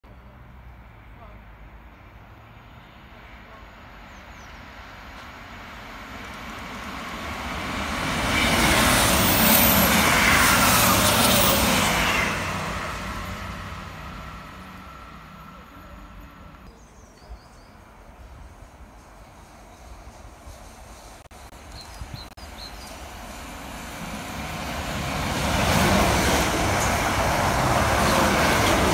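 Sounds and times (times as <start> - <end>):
train passing at speed: 0.3 - 28.9.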